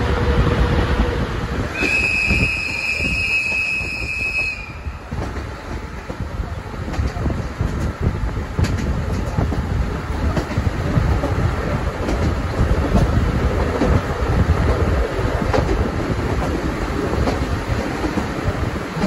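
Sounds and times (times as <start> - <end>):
train rumbling: 0.0 - 19.0
wheels clicking over rails: 1.7 - 19.0.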